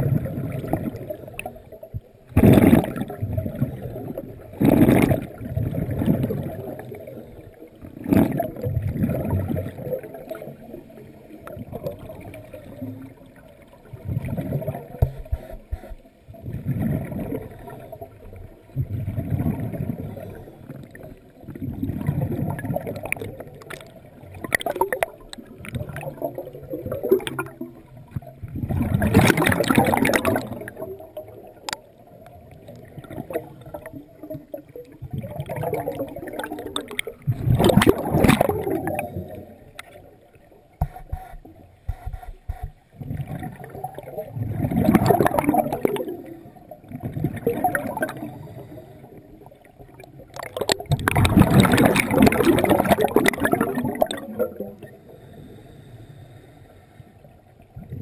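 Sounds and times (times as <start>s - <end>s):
diver exhaling bubbles underwater: 0.0s - 1.7s, 2.3s - 10.8s, 13.9s - 31.8s, 32.6s - 39.6s, 43.0s - 55.5s.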